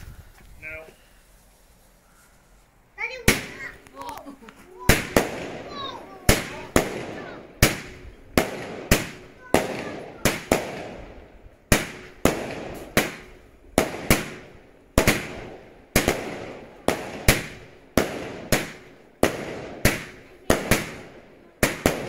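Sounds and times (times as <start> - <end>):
firework stars crackling: 0.0 - 22.0
firework bangs: 3.0 - 3.8, 4.8 - 22.0.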